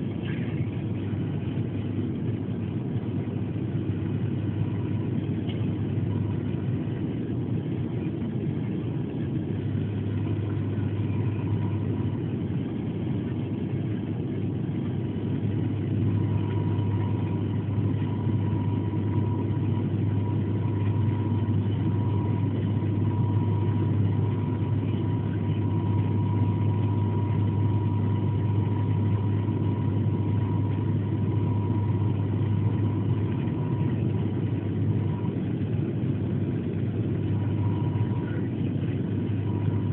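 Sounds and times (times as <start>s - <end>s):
airliner engine drone in cabin: 0.0s - 39.9s.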